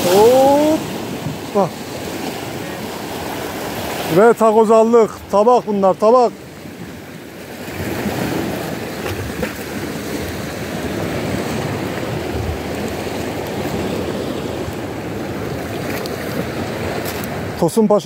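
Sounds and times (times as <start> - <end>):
waves breaking on shore: 0.0 - 18.0.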